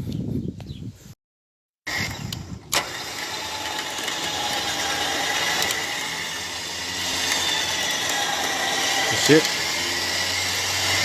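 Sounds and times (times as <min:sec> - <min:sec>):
motor whirring: 0:01.9 - 0:11.0.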